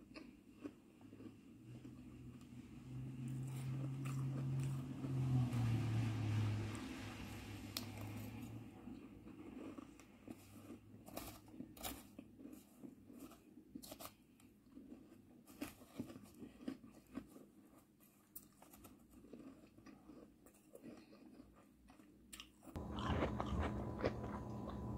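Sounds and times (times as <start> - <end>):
ice being chewed: 0.0 - 5.6, 7.7 - 24.9.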